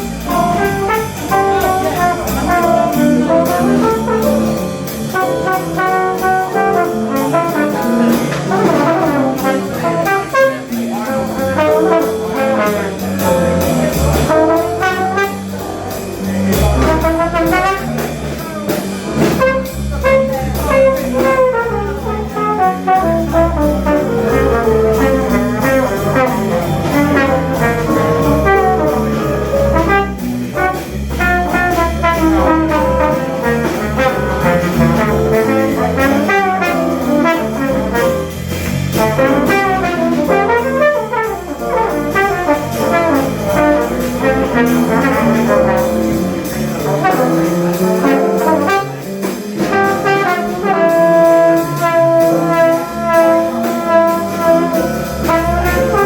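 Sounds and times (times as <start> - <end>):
brass instruments: 0.0 - 56.0
swing jazz band playing: 0.0 - 56.0.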